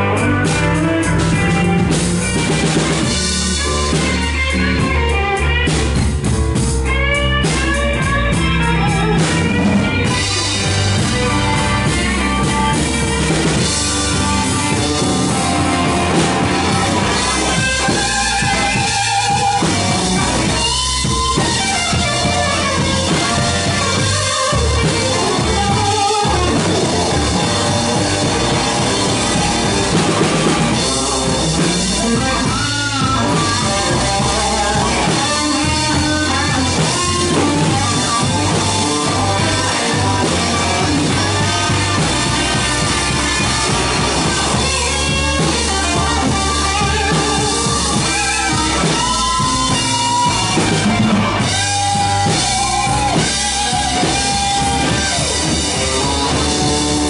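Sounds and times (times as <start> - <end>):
drum kit: 0.0 - 57.0
electric bass: 0.0 - 57.0
electric guitar: 0.0 - 57.0
keyboard: 0.0 - 57.0.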